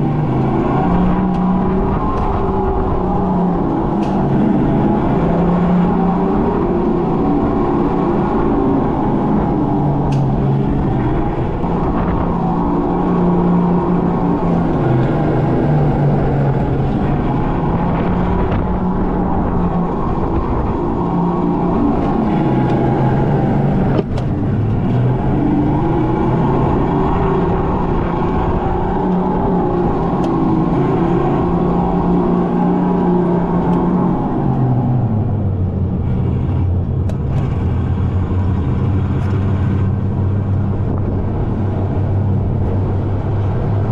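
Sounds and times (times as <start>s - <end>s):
steady rumble: 0.0s - 43.9s.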